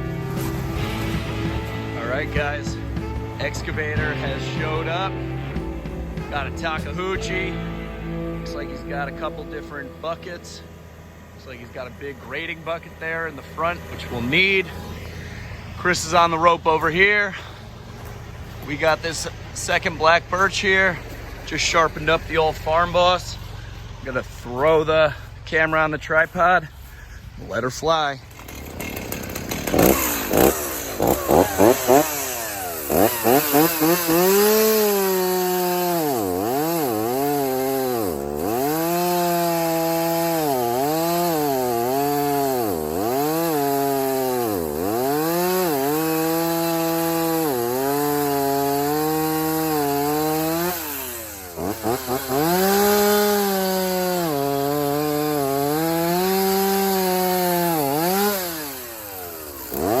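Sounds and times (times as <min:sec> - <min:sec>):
chainsaw cutting wood: 0:00.0 - 1:00.0.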